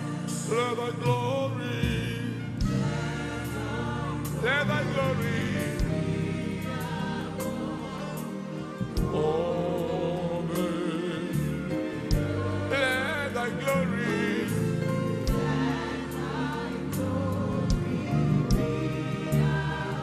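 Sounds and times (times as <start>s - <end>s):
band playing: 0.0s - 20.0s
choir singing gospel: 0.0s - 20.0s.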